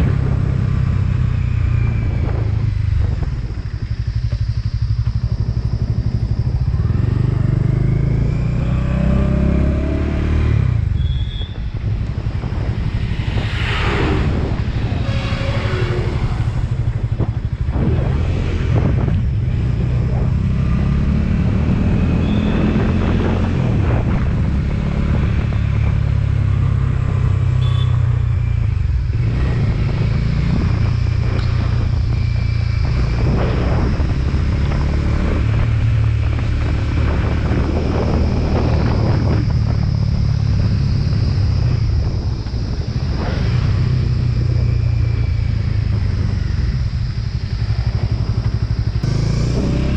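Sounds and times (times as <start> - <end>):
motorcycle engine running: 0.0 - 49.9
wind noise on microphone: 0.0 - 49.9.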